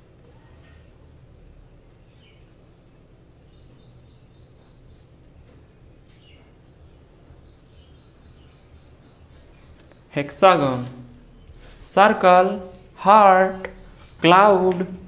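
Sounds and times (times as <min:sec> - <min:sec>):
low steady hum: 0:00.0 - 0:15.0
paintbrush rubbing on paper: 0:00.0 - 0:15.0
birds chirping: 0:00.2 - 0:15.0.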